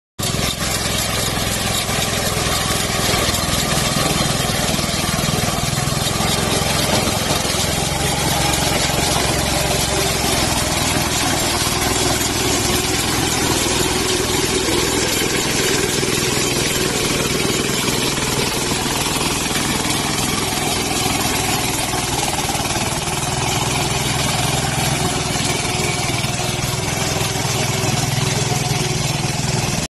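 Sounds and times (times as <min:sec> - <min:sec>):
mechanical clatter: 0:00.2 - 0:29.8
diesel engine running: 0:00.2 - 0:29.9.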